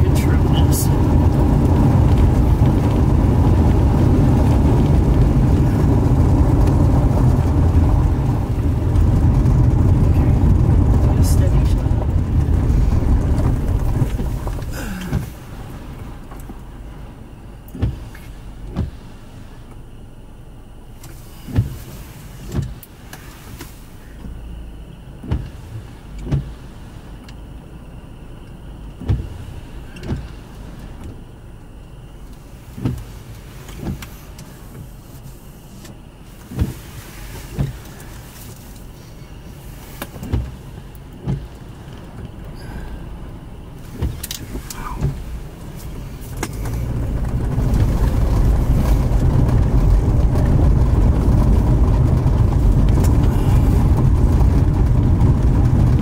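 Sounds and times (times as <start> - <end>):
low rushing rumble: 0.0 - 56.0
vehicle road noise: 0.0 - 56.0.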